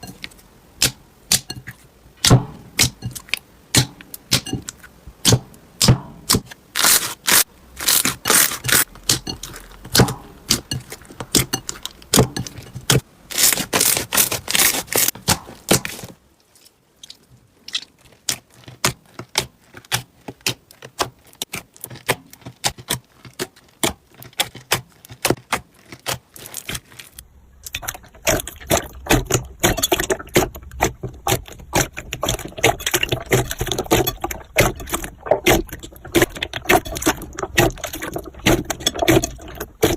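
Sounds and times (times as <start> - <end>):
slime crackling and popping: 2.2 - 16.1, 17.0 - 39.9.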